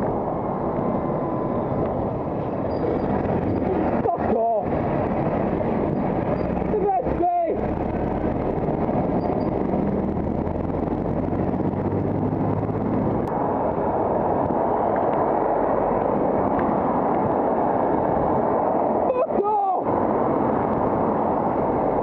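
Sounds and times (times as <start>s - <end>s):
lorry engine hum: 0.0s - 22.0s
wind rushing on microphone: 0.0s - 22.0s.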